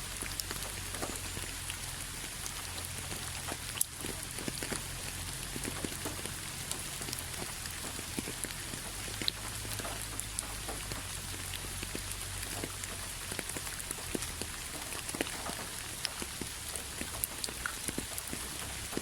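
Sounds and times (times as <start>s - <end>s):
rain drops pattering on hard surface: 0.0s - 19.0s.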